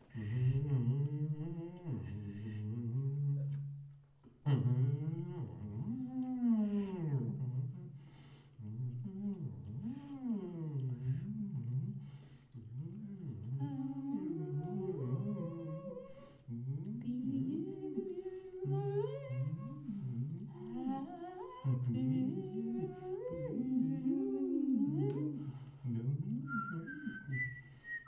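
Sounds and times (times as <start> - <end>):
two people humming: 0.0 - 28.0.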